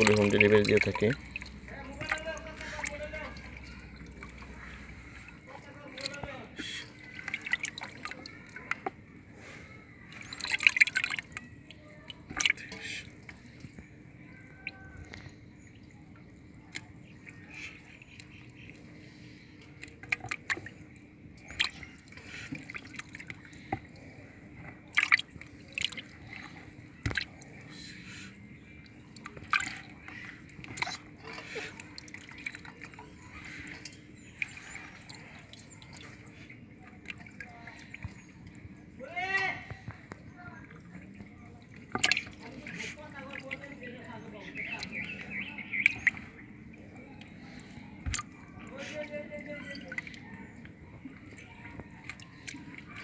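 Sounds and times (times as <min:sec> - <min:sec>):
water splashing in a plastic tub: 0:00.0 - 0:53.0.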